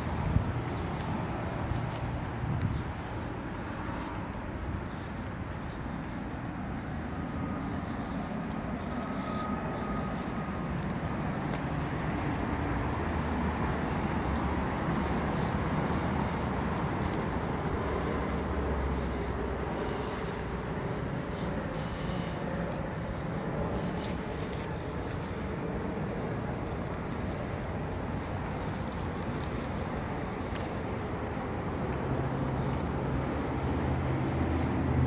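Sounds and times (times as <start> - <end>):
vehicle rumble: 0.0 - 35.0.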